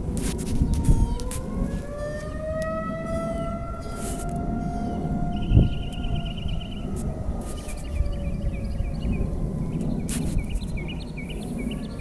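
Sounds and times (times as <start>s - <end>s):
sharp crackles: 0.0s - 8.5s, 9.2s - 11.4s
heavy low rumble: 0.0s - 12.0s
warning siren wailing: 0.0s - 12.0s.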